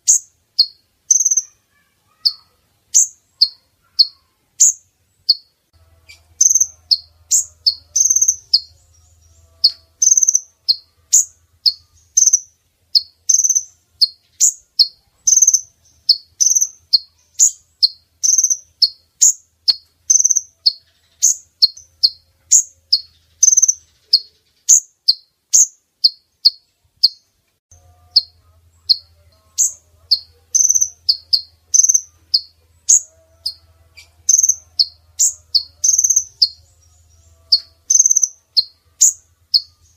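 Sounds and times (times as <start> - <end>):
bird chirping high and sharp: 0.0 - 27.3, 28.1 - 39.9.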